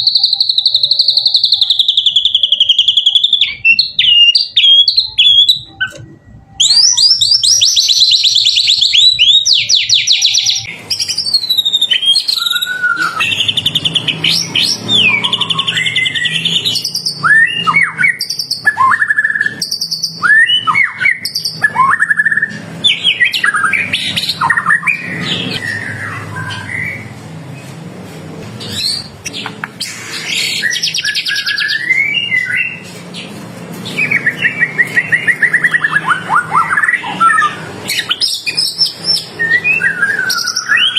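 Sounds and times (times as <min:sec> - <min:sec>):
bird singing: 0:00.0 - 0:27.7, 0:28.6 - 0:40.9.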